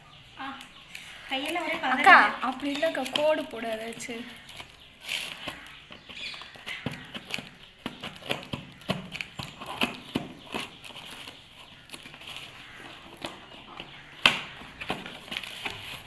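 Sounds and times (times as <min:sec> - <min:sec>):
plastic wrap crinkling: 0:00.5 - 0:16.0.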